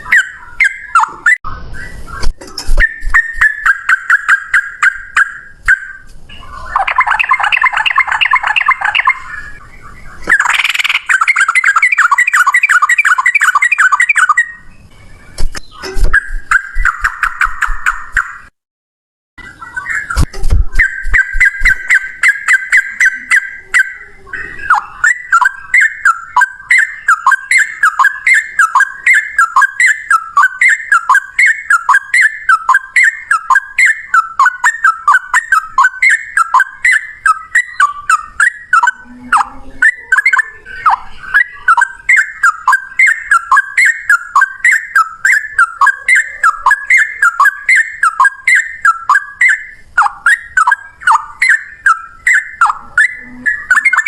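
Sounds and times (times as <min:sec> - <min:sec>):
bulbul song: 0:00.0 - 0:18.5, 0:19.4 - 0:54.0.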